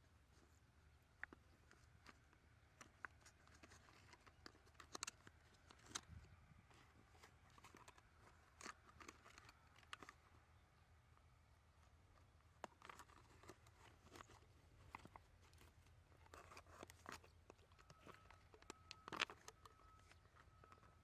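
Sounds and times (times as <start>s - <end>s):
faint steady tone: 0.0s - 21.0s
plastic clicking and crinkling: 0.2s - 10.6s, 11.2s - 21.0s.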